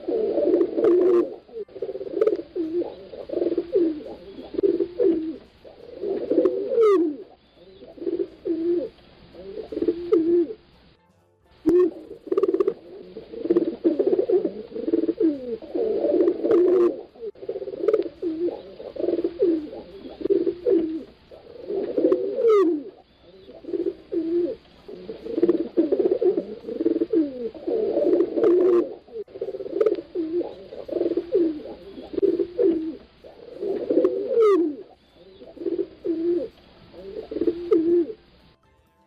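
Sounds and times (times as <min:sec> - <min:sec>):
pigeons cooing: 0:00.0 - 0:10.7, 0:11.7 - 0:38.5.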